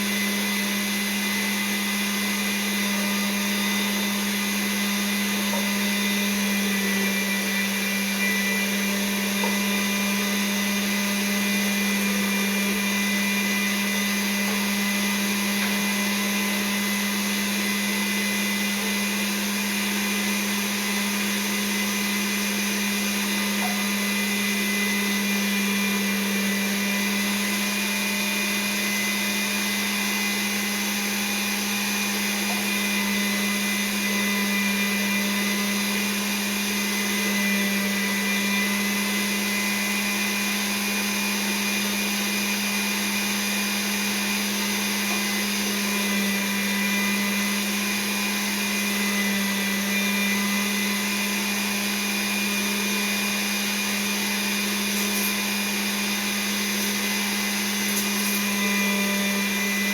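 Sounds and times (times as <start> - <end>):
electric meat grinder running: 0.0 - 59.9.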